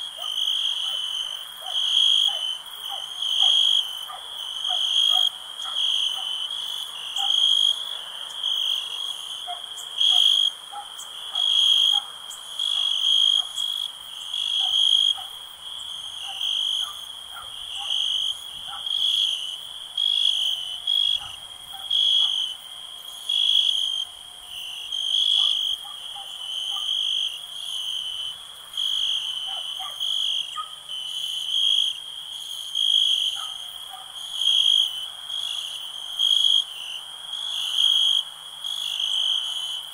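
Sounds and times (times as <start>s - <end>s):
faint high insect trills: 0.0s - 39.9s
insects chirping: 0.0s - 39.9s.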